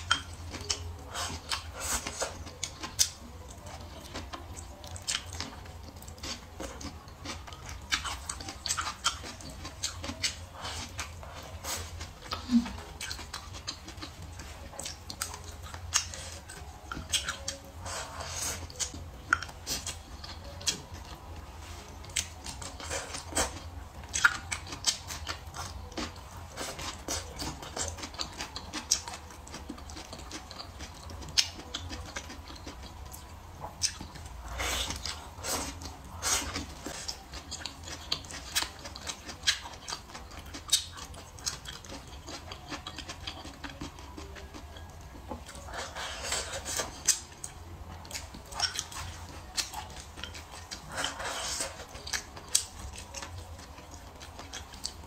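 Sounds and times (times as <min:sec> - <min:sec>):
person chewing with wet smacks: 0:00.0 - 0:55.0.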